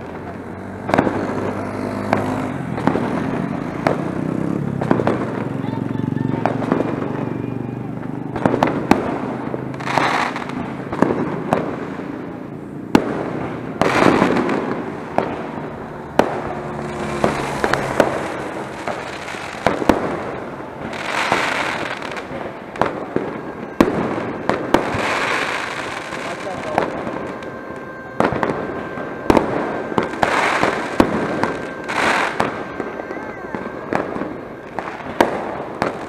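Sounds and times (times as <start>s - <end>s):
firework bangs and pops: 0.0s - 36.0s
hissing firework crackle: 0.0s - 36.0s.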